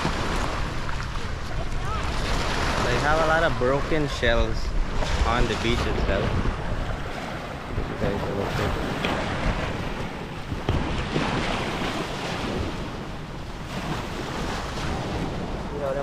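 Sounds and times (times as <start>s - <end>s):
sea waves on shore: 0.0s - 16.0s
wind buffeting microphone: 0.0s - 16.0s.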